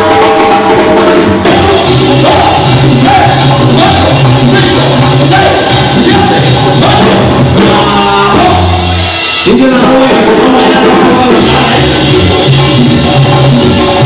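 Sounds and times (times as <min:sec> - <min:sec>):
dance music with singing: 0:00.0 - 0:14.0.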